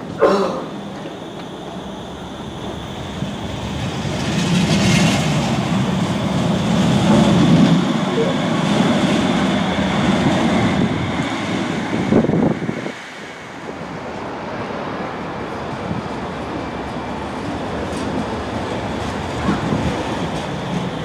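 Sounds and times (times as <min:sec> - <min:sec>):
tram motors: 0:00.0 - 0:21.0
tram wheels on rails: 0:00.0 - 0:21.0.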